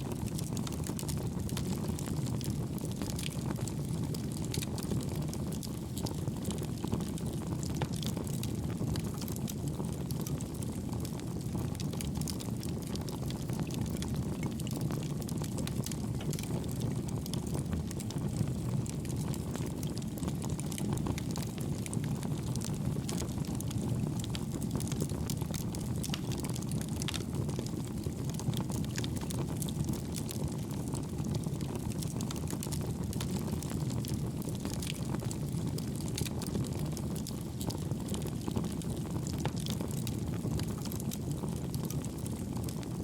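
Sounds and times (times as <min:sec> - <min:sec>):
fire crackling: 0:00.0 - 0:43.0
wood fire roaring: 0:00.0 - 0:43.0.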